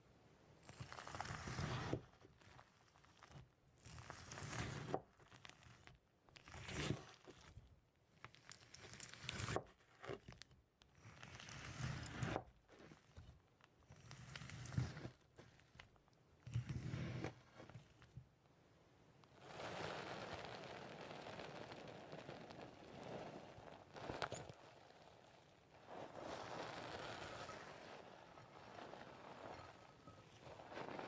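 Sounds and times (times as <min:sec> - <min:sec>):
quiet crinkling and crackling: 0:00.0 - 0:31.0.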